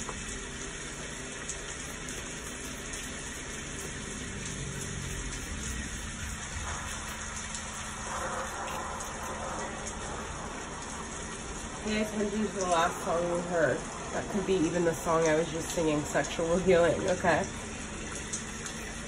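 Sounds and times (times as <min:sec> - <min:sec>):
steady rain hiss: 0:00.0 - 0:18.9.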